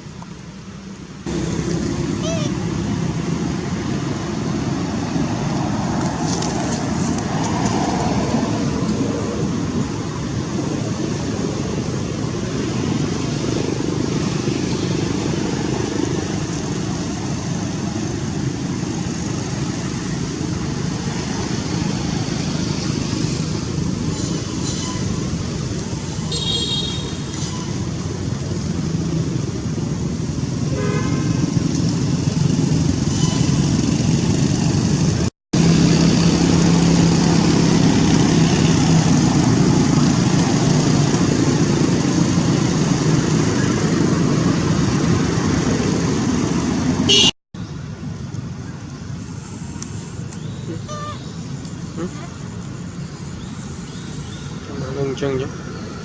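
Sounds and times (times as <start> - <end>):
motor vehicle noise: 0.0 - 56.0.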